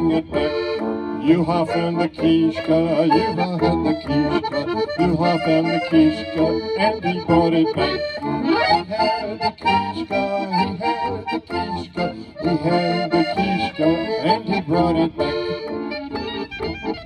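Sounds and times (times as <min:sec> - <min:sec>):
tuba bass line: 0:00.0 - 0:17.0.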